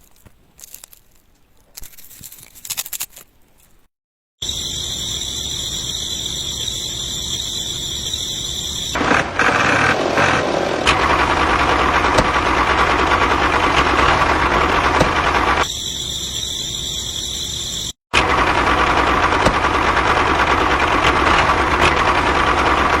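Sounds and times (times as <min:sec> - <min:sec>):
motor running with high whine: 0:04.4 - 0:23.0
rough engine running noise: 0:04.4 - 0:23.0.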